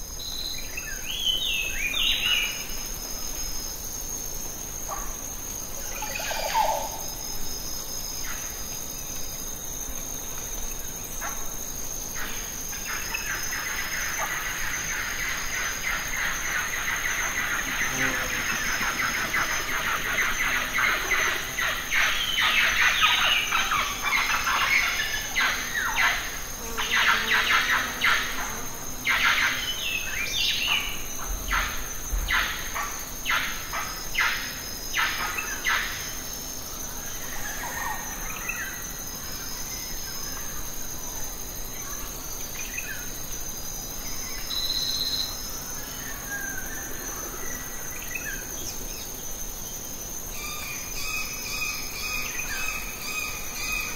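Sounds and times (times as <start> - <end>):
high-pitched insect drone: 0.0 - 9.8, 10.4 - 53.9.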